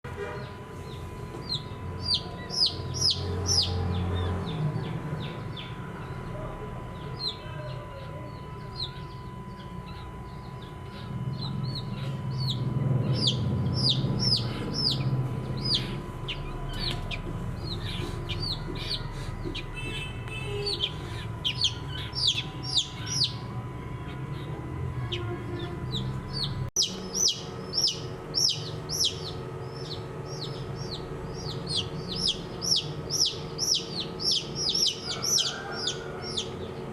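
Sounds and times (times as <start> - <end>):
baby chicks peeping: 0.2 - 36.9.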